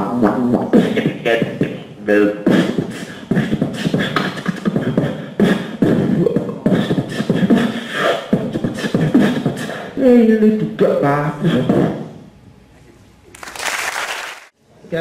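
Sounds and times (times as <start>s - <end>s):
beatboxing into a microphone: 0.0s - 12.2s.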